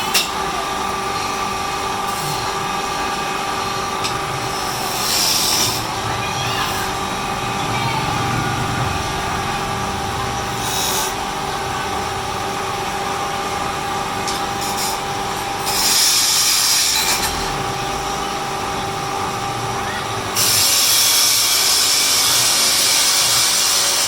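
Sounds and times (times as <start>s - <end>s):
wood lathe motor whining: 0.7s - 24.0s.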